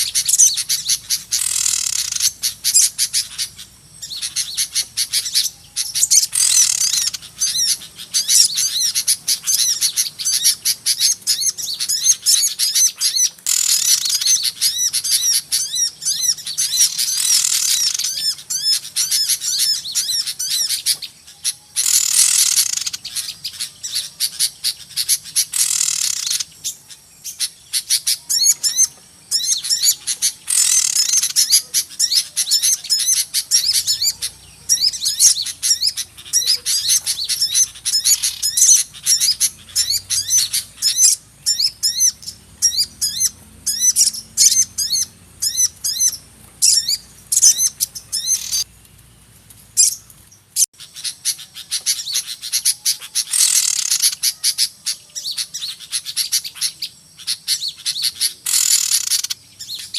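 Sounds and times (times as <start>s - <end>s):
small birds chattering: 0.0s - 59.9s.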